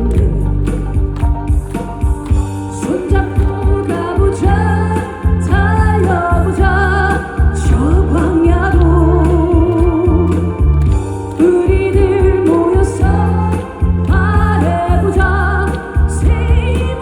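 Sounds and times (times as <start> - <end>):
amplified backing track with bass beat: 0.0 - 17.0
person singing with vibrato: 2.3 - 17.0.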